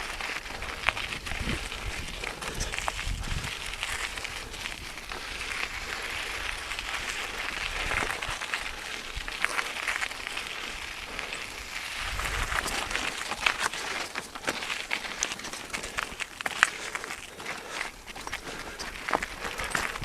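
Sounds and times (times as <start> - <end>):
bike clicks and rattles: 0.0 - 20.0
bike tyres crunching on gravel: 0.0 - 20.0.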